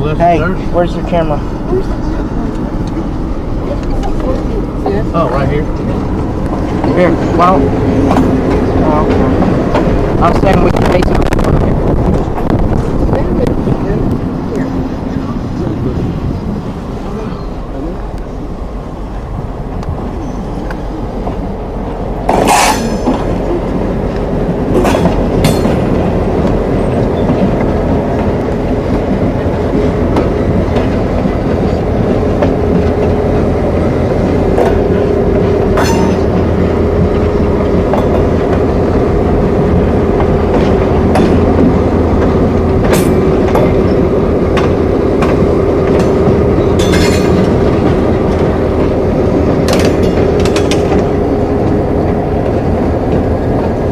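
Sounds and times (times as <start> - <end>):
freight train rumbling past: 0.0 - 53.9
wheels clacking over rail joints: 0.0 - 53.9.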